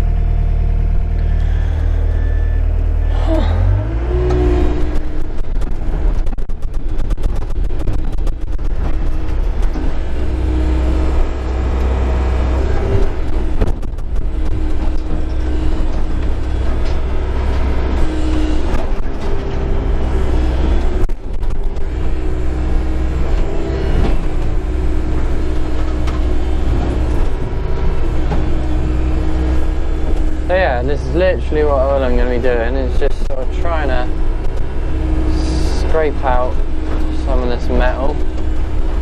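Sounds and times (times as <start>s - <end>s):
excavator diesel engine: 0.0s - 39.0s
hydraulic whine: 0.0s - 39.0s.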